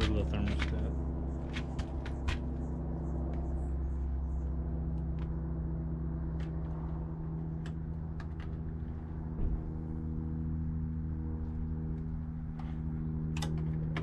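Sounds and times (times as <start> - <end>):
hvac equipment humming: 0.0 - 14.0.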